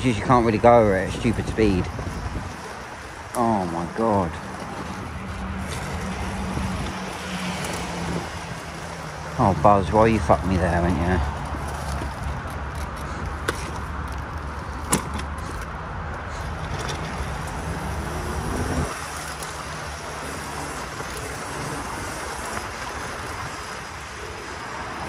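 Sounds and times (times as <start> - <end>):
electric dirt bike rumble: 0.0 - 25.0.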